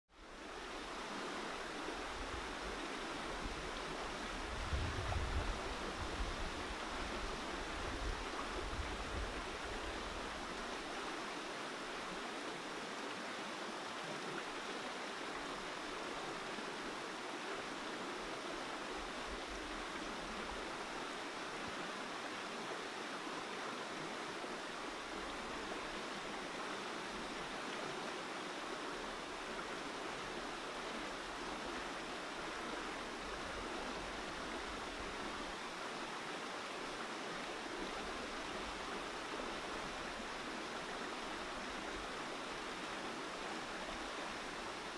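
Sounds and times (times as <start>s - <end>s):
river rushing: 0.2s - 44.9s.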